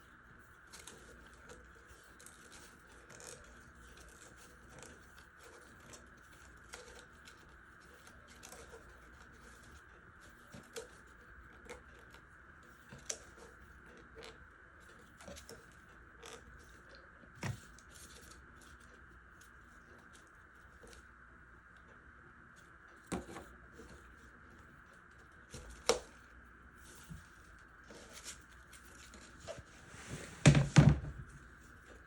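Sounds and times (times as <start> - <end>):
small clicks and scrapes: 0.0 - 22.0, 22.6 - 30.4.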